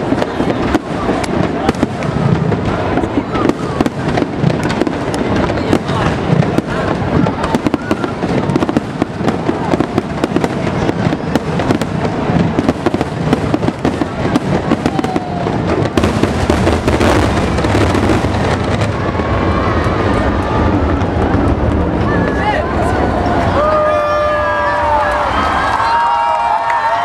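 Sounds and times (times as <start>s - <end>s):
fireworks crackling and popping: 0.0s - 27.0s
fireworks rushing noise: 0.0s - 27.0s.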